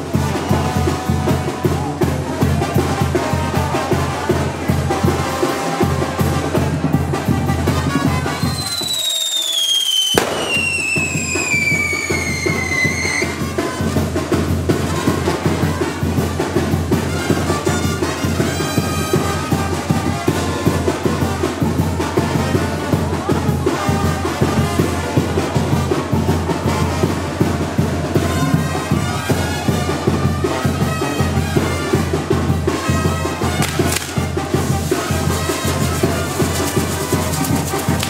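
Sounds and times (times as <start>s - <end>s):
brass band music: 0.0s - 8.8s, 10.2s - 38.0s.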